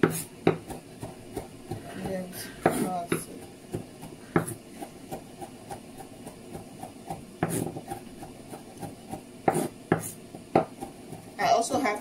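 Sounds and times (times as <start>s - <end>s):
knife cutting on a cutting board: 0.0s - 11.3s.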